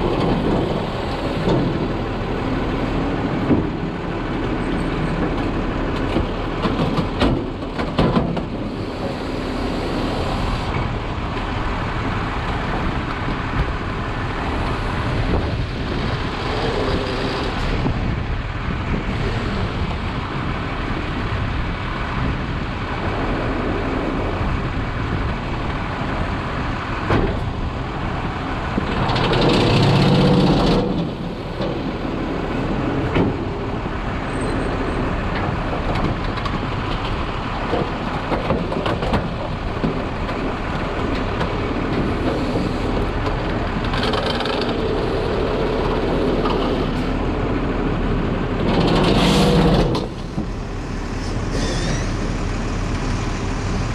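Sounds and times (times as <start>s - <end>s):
hydraulic garbage packer: 0.0s - 53.9s
truck engine running: 0.0s - 53.9s.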